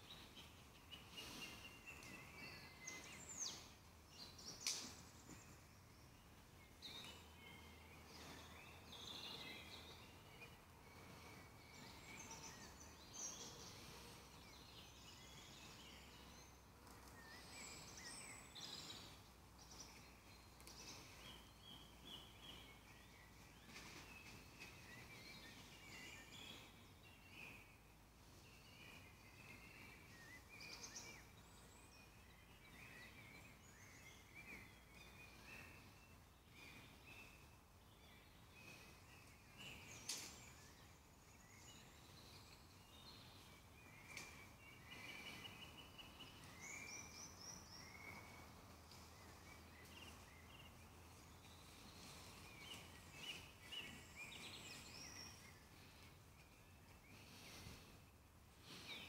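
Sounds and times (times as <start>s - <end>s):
faint birdsong: 0.0s - 59.0s.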